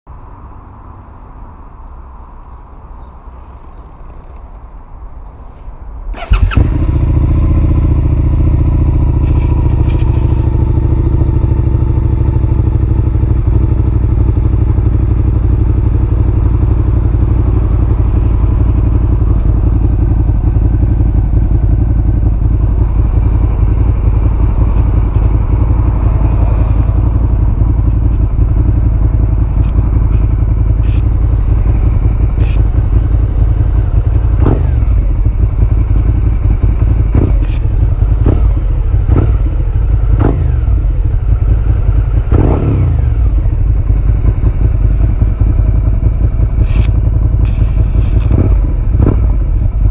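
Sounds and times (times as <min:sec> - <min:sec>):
motorcycle engine idling: 0:06.1 - 0:49.9.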